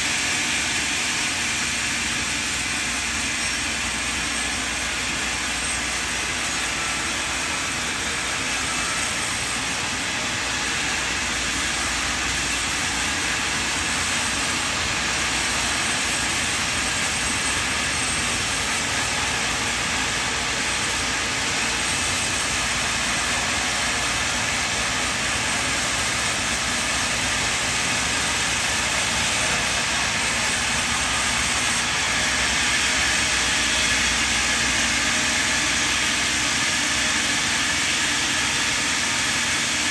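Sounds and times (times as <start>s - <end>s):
band saw whirring: 0.0s - 39.9s.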